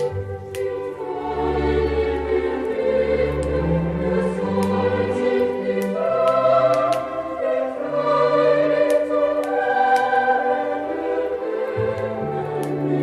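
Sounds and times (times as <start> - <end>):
choir singing: 0.0 - 13.0
orchestral accompaniment: 0.0 - 13.0.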